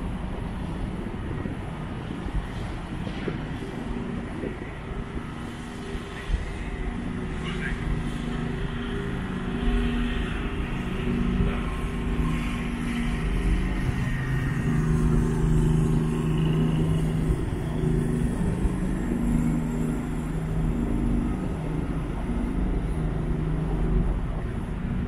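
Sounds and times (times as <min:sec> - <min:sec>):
ferry engines droning: 0:00.0 - 0:25.0.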